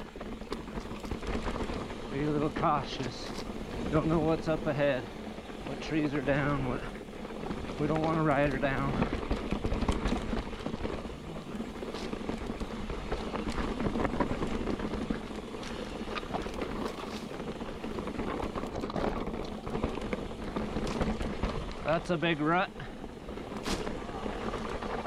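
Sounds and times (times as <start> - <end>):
bike tyres on dirt trail: 0.0 - 25.0
small clicks and rattles: 0.0 - 25.0.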